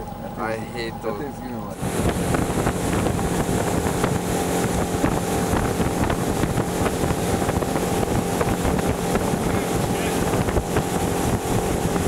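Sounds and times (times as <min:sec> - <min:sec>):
motorboat engine running: 0:00.0 - 0:12.0
wind buffeting microphone: 0:00.1 - 0:12.0.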